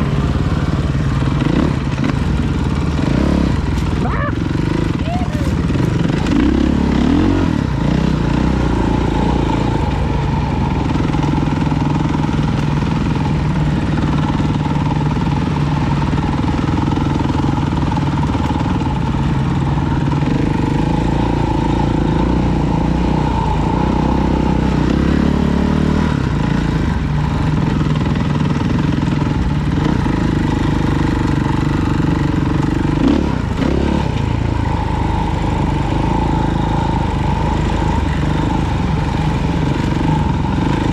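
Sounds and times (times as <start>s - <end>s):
off-road vehicle engine running: 0.0s - 40.9s.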